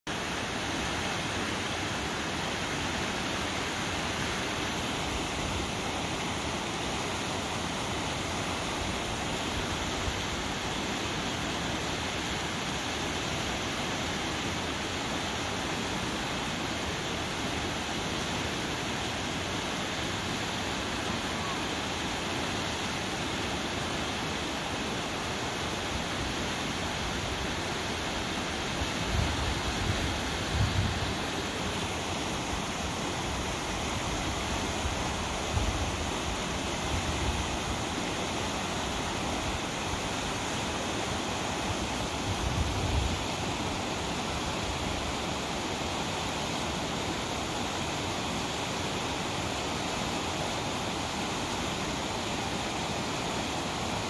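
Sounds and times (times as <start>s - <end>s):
river water rushing: 0.1s - 54.0s.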